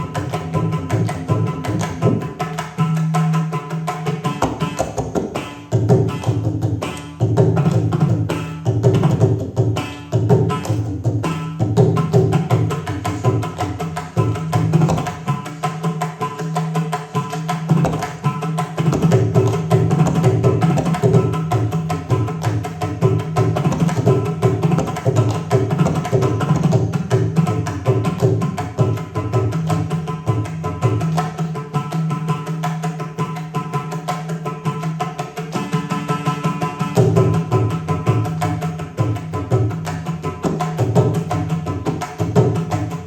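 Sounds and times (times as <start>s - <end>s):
hand drums playing fast rhythm: 0.0s - 43.0s.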